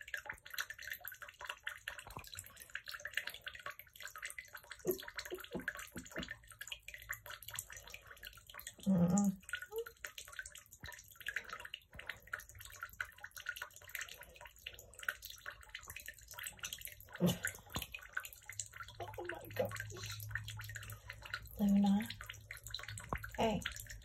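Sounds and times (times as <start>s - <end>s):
bathwater splashing and dripping: 0.0s - 24.0s
cat lapping water: 0.0s - 24.0s.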